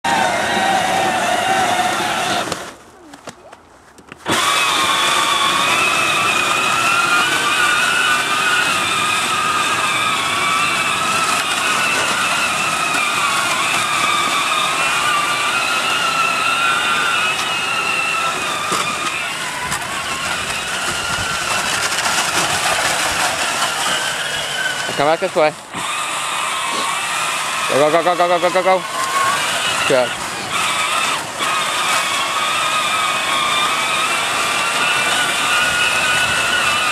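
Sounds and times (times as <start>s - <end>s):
toy vehicle motors whining: 0.0s - 36.9s.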